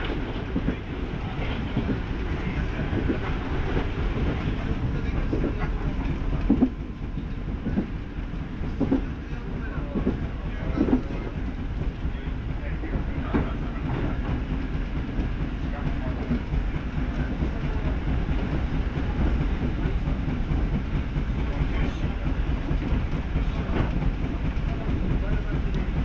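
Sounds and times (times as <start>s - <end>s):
train interior rumble: 0.0s - 26.0s.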